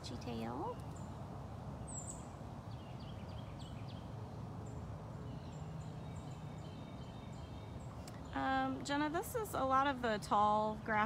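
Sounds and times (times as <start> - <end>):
low outdoor rumble: 0.0 - 11.0
small birds chirping: 0.0 - 11.0.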